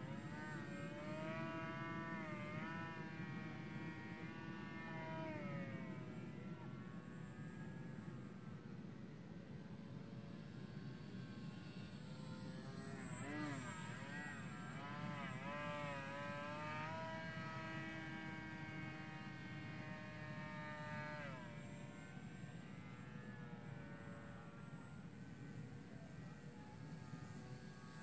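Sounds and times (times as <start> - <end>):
model airplane motor whine: 0.0 - 28.0.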